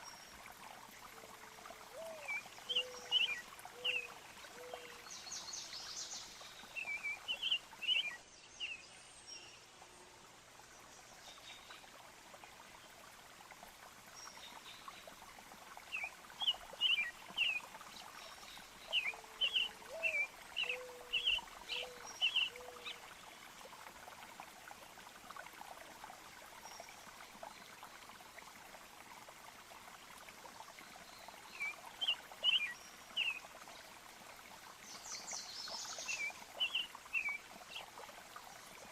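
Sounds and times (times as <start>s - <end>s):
faint trickle of running water: 0.0s - 38.9s.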